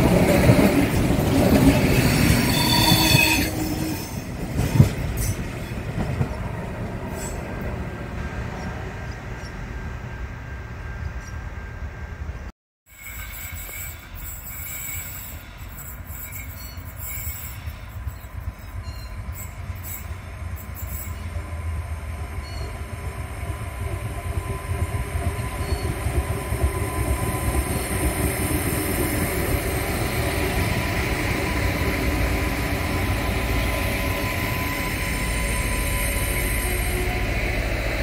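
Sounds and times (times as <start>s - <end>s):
diesel railcar passing: 0.0s - 38.0s.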